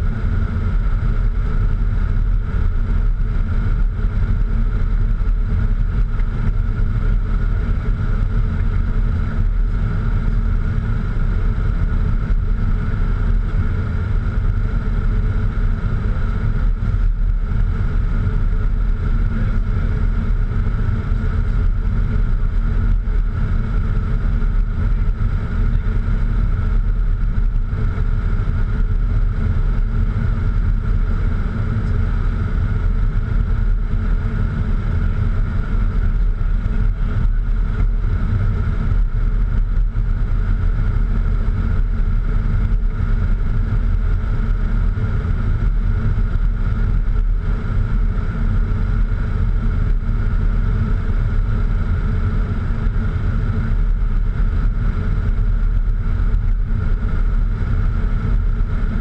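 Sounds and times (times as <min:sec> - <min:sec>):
jet airflow and engine rumble: 0:00.0 - 0:59.0
steady hum: 0:00.0 - 0:59.0.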